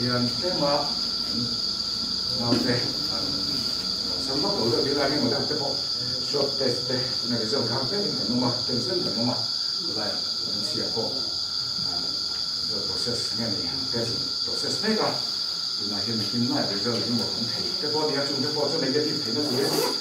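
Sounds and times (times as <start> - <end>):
people talking indistinctly: 0.0 - 19.9
crickets trilling: 0.0 - 20.0.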